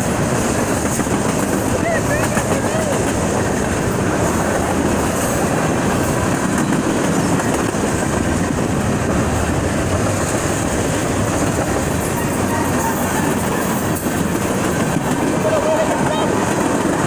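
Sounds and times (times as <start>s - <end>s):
freight train cars rolling past: 0.0s - 17.0s.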